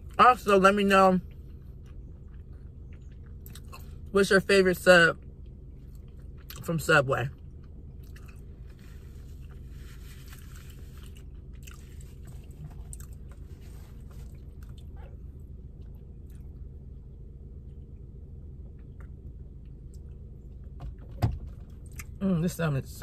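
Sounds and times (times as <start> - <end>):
steady low hum: 0.0 - 23.0
person chewing a sandwich: 1.2 - 4.1, 5.2 - 20.8, 21.6 - 22.2.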